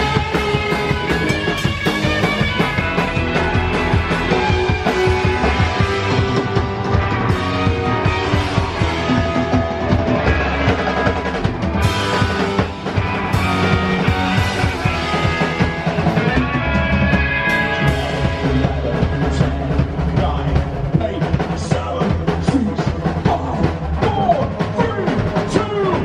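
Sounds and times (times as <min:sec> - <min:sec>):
punk rock band playing live: 0:00.0 - 0:26.0.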